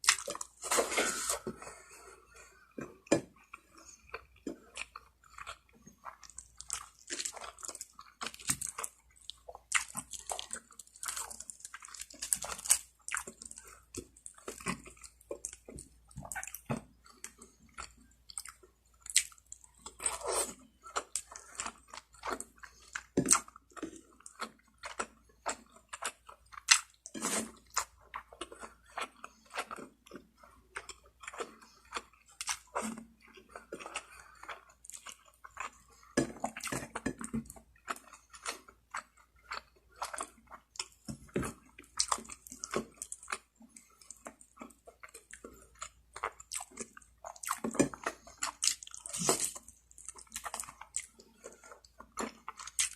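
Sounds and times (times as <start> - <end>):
person chewing and biting: 0.0 - 52.9.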